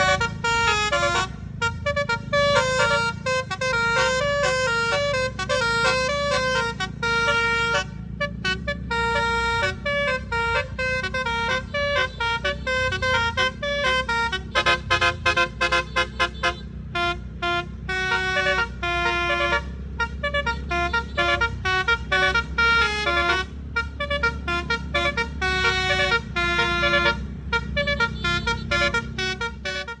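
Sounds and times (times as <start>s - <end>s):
bus engine humming: 0.0s - 30.0s
musical air horn melody: 0.0s - 30.0s.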